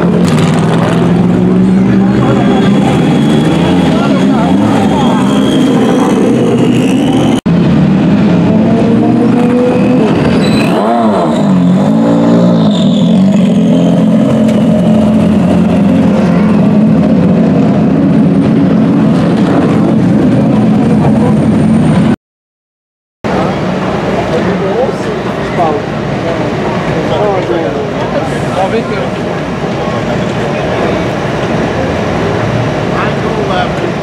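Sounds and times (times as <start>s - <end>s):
race car engines running: 0.0s - 22.2s, 23.3s - 34.0s.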